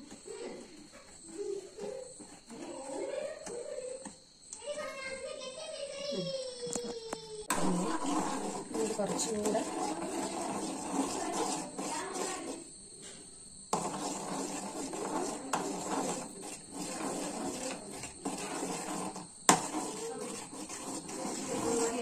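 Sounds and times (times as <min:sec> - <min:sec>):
spoon scraping melting sugar: 0:00.0 - 0:04.2, 0:07.5 - 0:12.8, 0:13.7 - 0:22.0.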